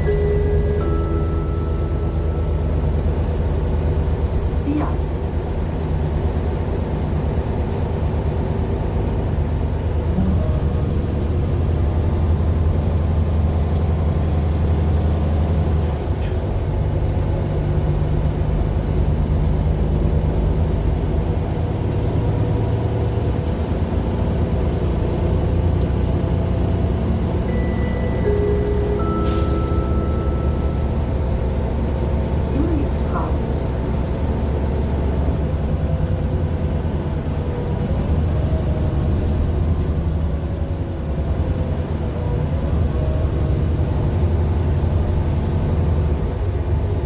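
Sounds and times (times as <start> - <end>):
bus diesel engine droning: 0.0 - 47.0.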